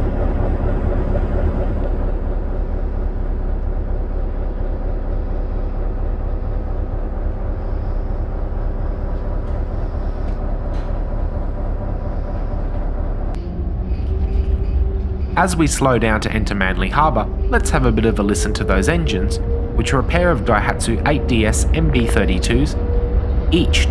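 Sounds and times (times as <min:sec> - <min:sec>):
ferry diesel engines droning: 0:00.0 - 0:23.9.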